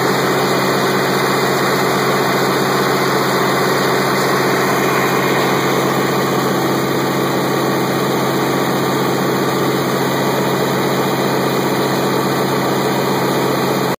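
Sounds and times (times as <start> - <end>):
diesel engine running steadily: 0.0 - 14.0.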